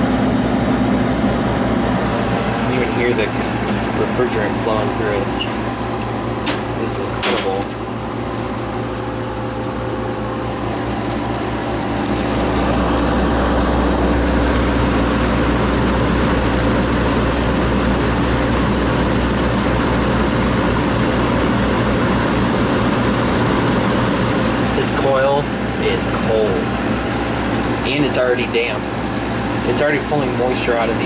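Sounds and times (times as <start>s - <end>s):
air conditioner fan airflow: 0.0s - 31.0s
low compressor hum: 0.0s - 31.0s.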